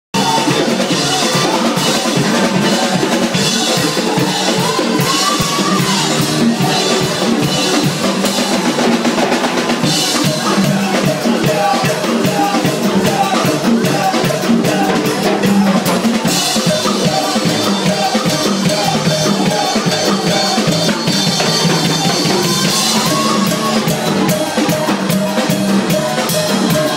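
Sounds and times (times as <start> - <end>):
drum kit beat: 0.1 - 26.9
live band music: 0.1 - 26.9.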